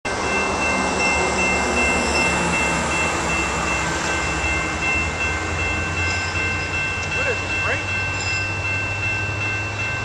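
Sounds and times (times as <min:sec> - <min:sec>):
diesel locomotive engine rumble: 0:00.1 - 0:10.0.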